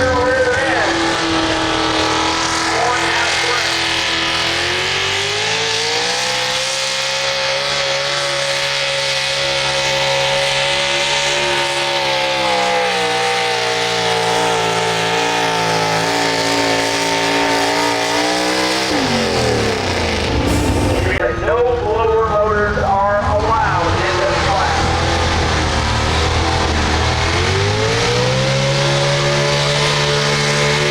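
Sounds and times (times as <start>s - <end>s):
engine at high revs under load: 0.0s - 21.2s, 23.5s - 30.9s.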